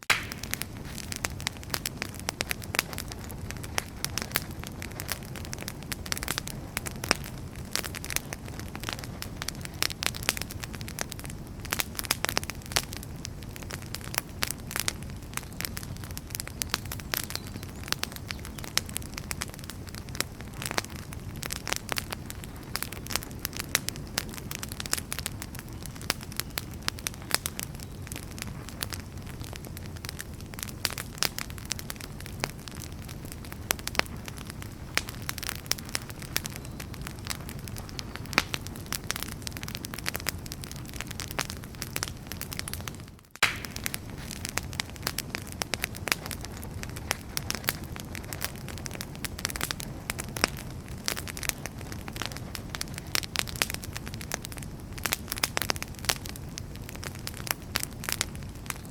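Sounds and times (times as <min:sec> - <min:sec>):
fire snapping and popping: 0:00.0 - 0:58.9
low rumble of flames: 0:00.0 - 0:58.9
wood fire crackling: 0:00.0 - 0:58.9.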